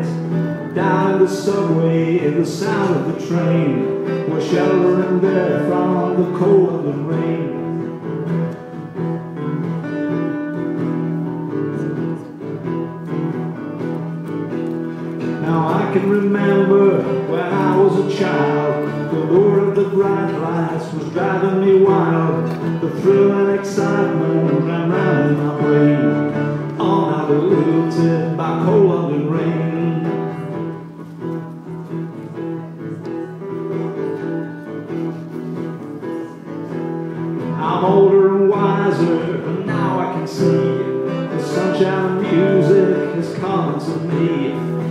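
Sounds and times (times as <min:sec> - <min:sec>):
acoustic folk music: 0:00.0 - 0:44.9
guitar: 0:00.0 - 0:44.9.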